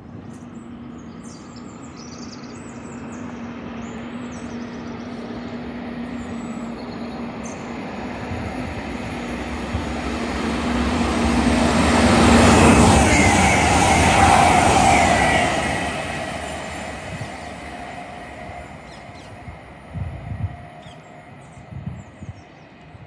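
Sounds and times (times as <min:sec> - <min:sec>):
train approaching at speed: 0:00.0 - 0:23.0.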